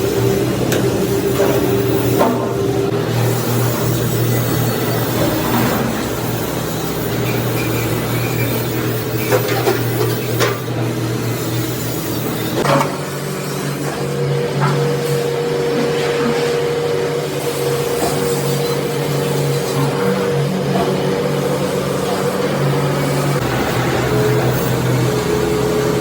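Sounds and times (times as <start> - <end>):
machinery humming: 0.0 - 12.6, 13.3 - 26.0.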